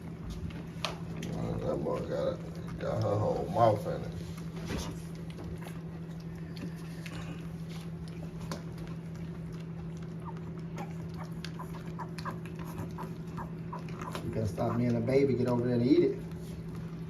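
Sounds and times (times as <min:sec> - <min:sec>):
puppies lapping milk: 0:00.0 - 0:17.0
steady low hum: 0:00.0 - 0:17.0.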